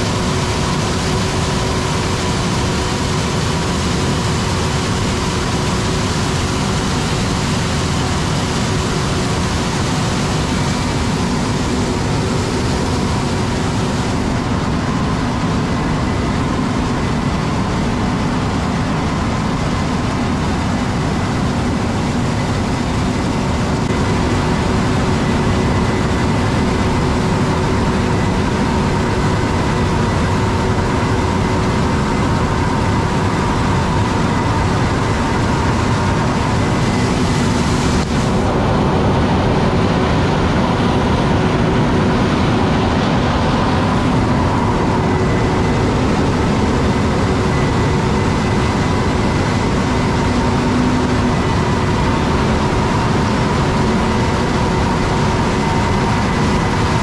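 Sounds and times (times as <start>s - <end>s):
combine harvester rumbling: 0.0s - 57.0s.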